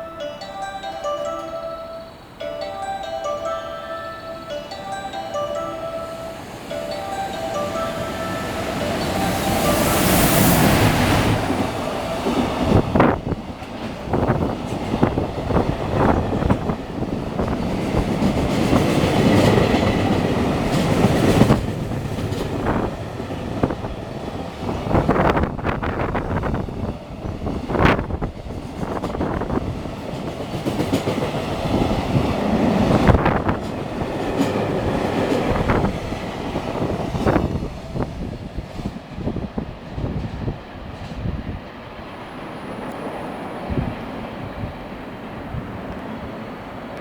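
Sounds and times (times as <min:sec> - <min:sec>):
freight train rumbling: 0:00.0 - 0:47.0.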